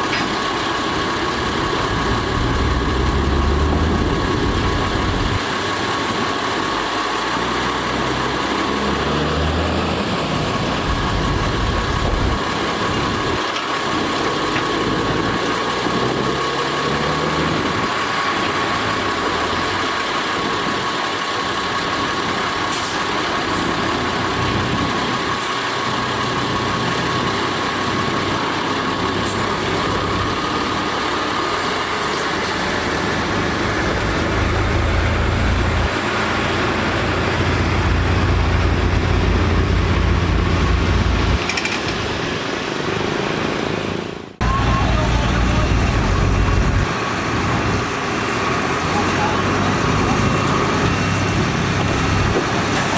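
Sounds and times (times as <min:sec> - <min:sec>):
heavy diesel engine rumbling: 0:00.0 - 0:52.9.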